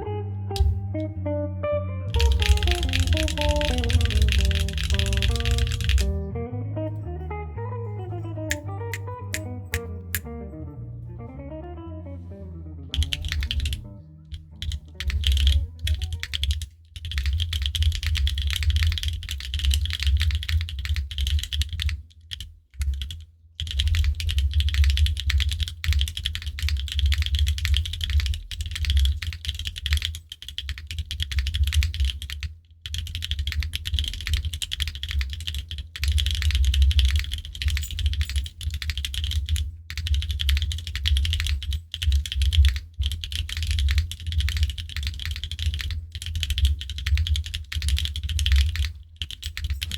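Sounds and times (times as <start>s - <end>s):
mechanical keyboard typing: 2.2s - 6.1s, 13.0s - 49.9s.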